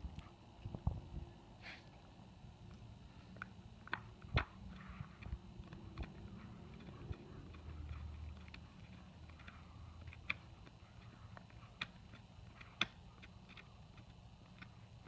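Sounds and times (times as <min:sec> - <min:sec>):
dog teeth gnawing antler: 0:02.7 - 0:15.0.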